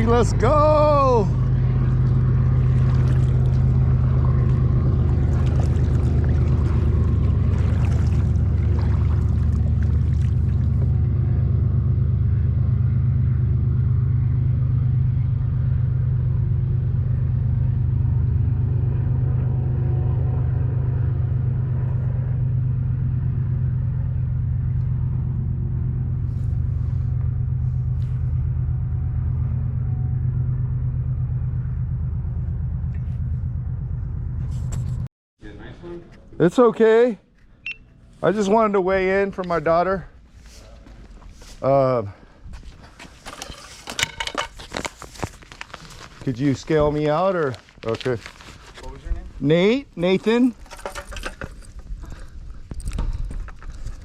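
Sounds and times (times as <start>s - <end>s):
vehicle engine and road drone: 0.0s - 54.0s.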